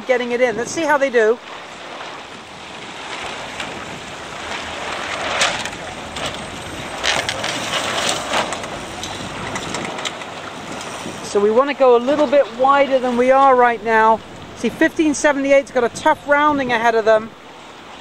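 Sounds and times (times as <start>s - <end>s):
water slapping boat hull: 0.0s - 18.0s
wind noise on microphone: 0.0s - 18.0s.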